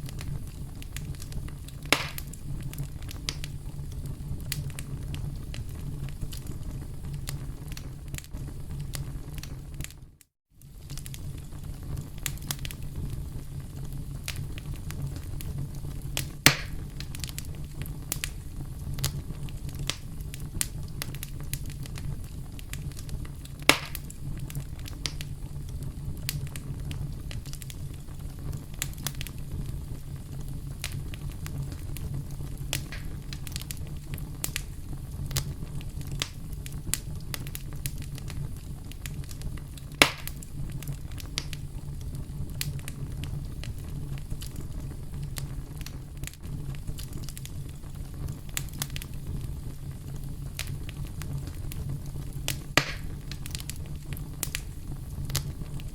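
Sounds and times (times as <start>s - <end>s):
loud fire pops: 0.0s - 55.9s
wood fire crackling: 0.0s - 55.9s.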